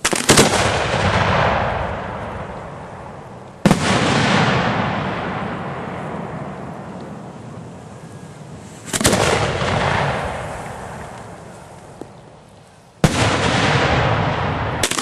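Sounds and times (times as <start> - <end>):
firework bangs: 0.0 - 15.0
rolling echo: 0.0 - 15.0.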